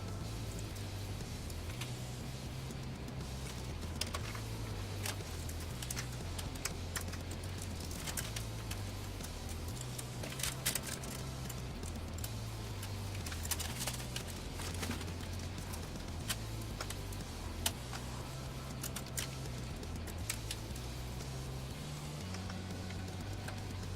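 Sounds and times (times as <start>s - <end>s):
low bass line: 0.0s - 23.9s.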